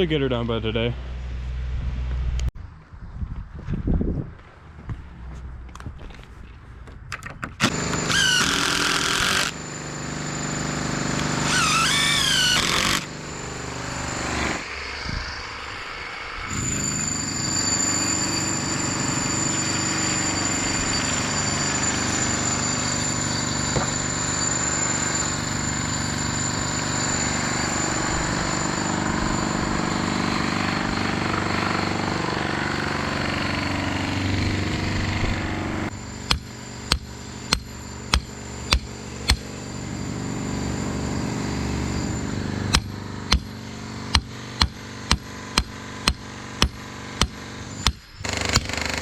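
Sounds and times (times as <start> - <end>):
machine engine running: 7.6 - 49.0.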